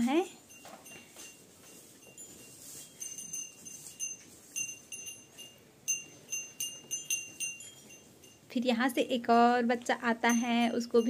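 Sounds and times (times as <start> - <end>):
small metal bells clinking: 0.0 - 9.2, 10.0 - 11.0.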